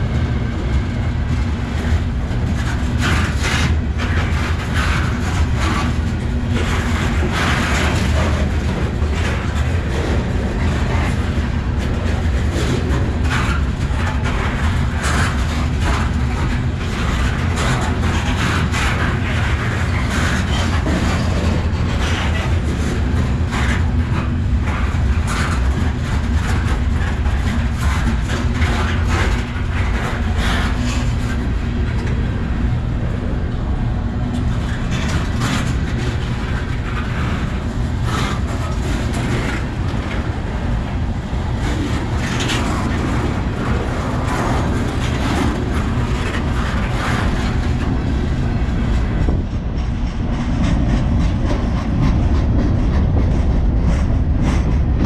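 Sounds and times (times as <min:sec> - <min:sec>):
freight train wheels rumbling: 0:00.0 - 0:55.0
wheels clanking over rail joints: 0:00.0 - 0:55.0.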